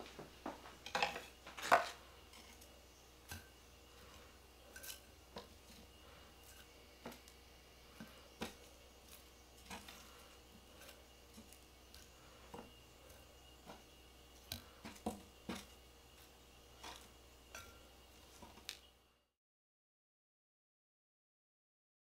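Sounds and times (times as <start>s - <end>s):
faint steady hum: 0.0s - 19.4s.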